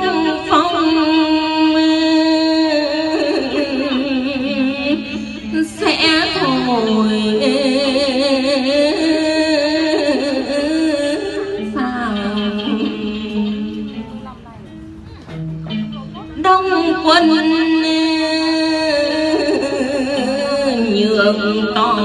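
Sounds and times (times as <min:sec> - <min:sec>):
woman chanting with vibrato: 0:00.0 - 0:14.5, 0:16.4 - 0:22.0
plucked lute: 0:00.0 - 0:22.0.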